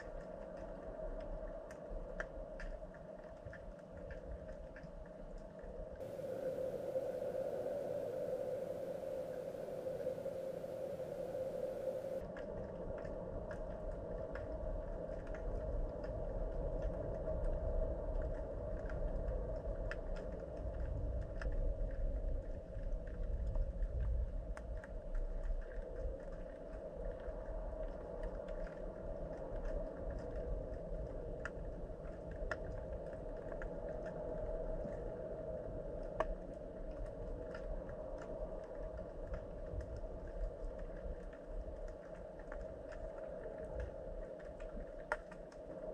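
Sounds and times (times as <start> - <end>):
constant hum: 0.0 - 45.9
small clicks and ticks: 0.0 - 45.9
underwater low rumble: 0.0 - 45.9.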